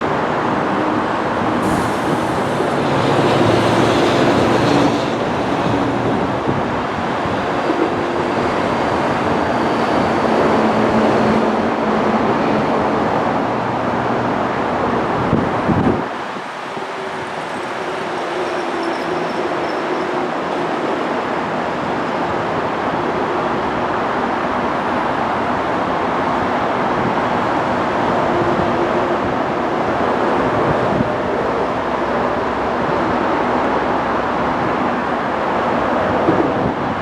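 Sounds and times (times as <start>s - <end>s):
light rail train rumble: 0.0s - 37.0s.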